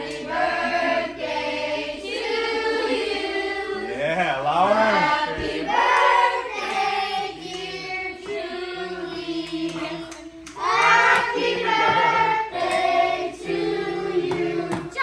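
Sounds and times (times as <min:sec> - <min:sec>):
voices singing together: 0:00.0 - 0:15.0.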